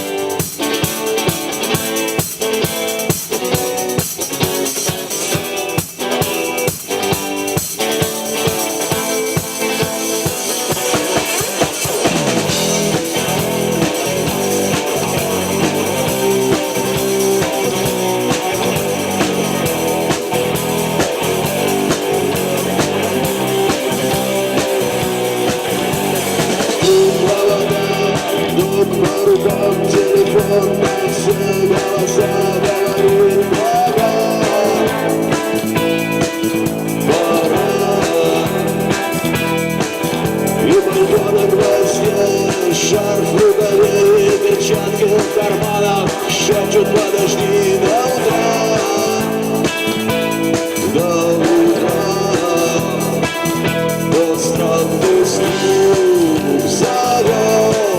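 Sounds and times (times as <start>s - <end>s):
guitar slide: 0.0s - 57.9s
rock band playing: 0.0s - 57.9s.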